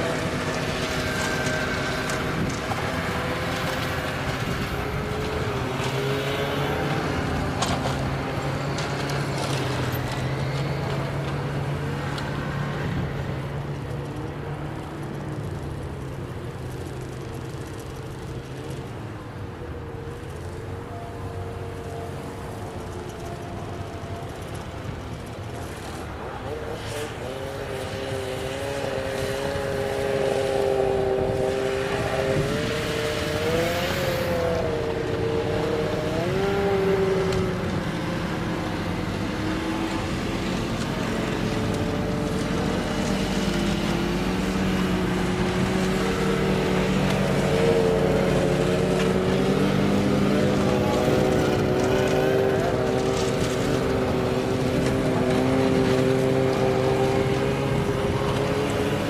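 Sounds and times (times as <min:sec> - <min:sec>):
snowmobile engines running: 0:00.0 - 0:59.0.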